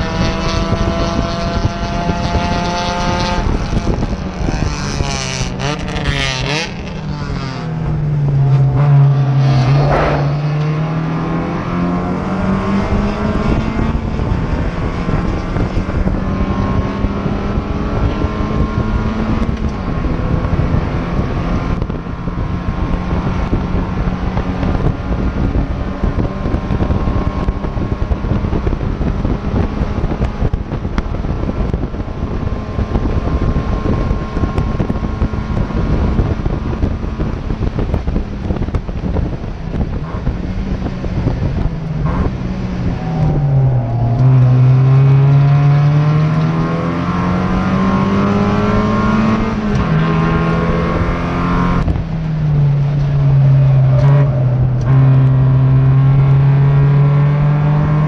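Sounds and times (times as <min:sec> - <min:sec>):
race car engine revving: 0:00.0 - 0:58.0
wind and road noise: 0:00.0 - 0:58.0.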